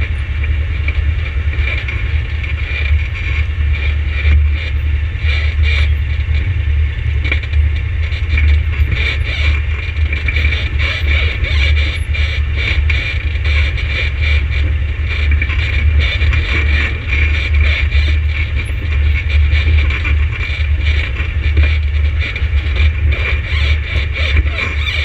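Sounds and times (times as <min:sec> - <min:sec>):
engine running with low hum: 0:00.0 - 0:25.0.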